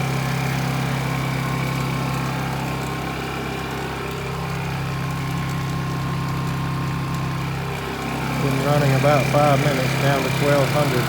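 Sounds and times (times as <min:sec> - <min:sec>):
generator engine running: 0:00.0 - 0:11.0
vacuum pump running: 0:00.0 - 0:11.0.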